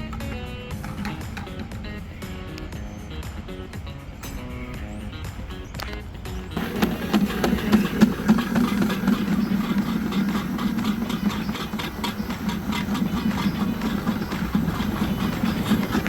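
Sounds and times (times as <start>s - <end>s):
drain-cleaning machine motor hum: 0.0s - 16.0s.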